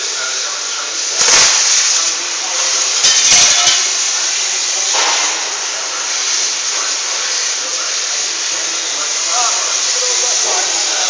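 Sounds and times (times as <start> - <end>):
loud steady hiss: 0.0 - 11.0.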